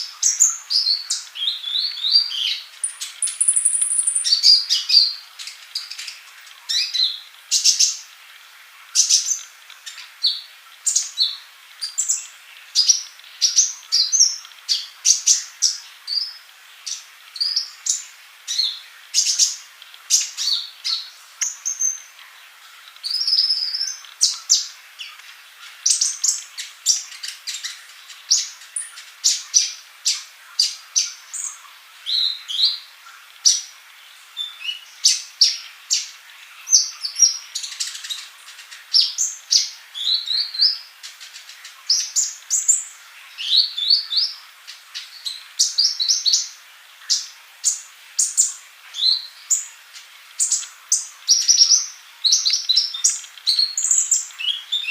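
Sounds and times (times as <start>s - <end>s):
sunbird chirping: 0.0s - 8.2s, 8.9s - 54.9s.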